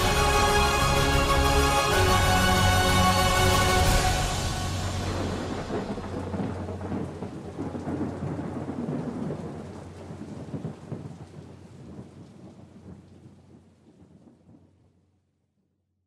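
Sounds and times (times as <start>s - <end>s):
thunder rumble: 0.0s - 15.2s
rain: 0.0s - 15.3s.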